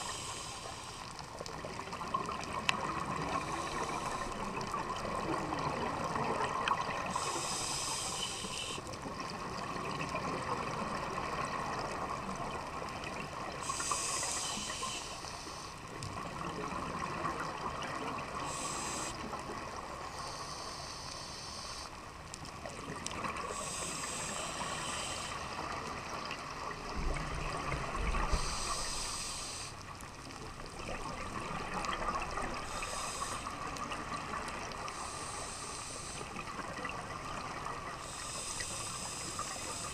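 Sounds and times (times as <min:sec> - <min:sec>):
regulator bubbles hissing: 0:00.0 - 0:22.0, 0:22.8 - 0:29.9, 0:30.6 - 0:39.9
steady underwater hiss: 0:00.0 - 0:39.9.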